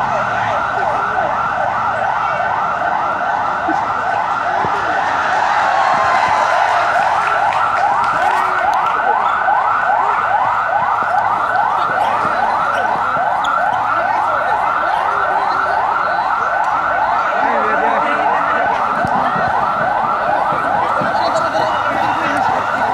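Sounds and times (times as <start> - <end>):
siren yelping: 0.0 - 22.9.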